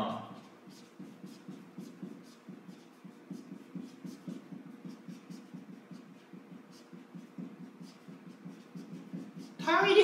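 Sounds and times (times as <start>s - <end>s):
marker pen writing on whiteboard: 0.3s - 10.0s.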